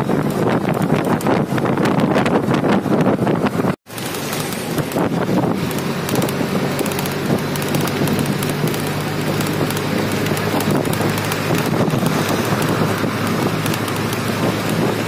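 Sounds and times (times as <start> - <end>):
tyres on road: 0.0 - 15.0
vehicle engine hum: 0.0 - 15.0
wind rushing over microphone: 0.0 - 15.0.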